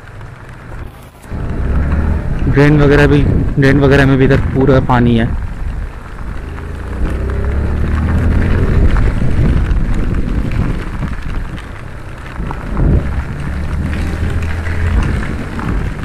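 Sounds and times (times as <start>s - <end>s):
heavy rain falling: 0.0s - 16.0s
low rumble: 0.0s - 16.0s.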